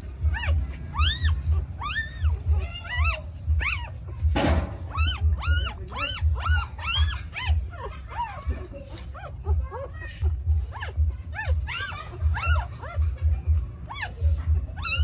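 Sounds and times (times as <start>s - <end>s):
low rhythmic thudding: 0.0s - 15.0s
puppies crying: 0.0s - 15.0s.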